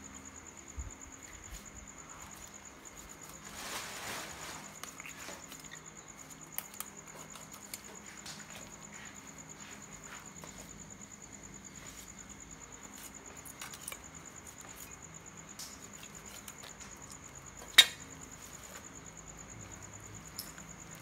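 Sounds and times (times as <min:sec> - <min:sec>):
cricket trilling: 0:00.0 - 0:21.0.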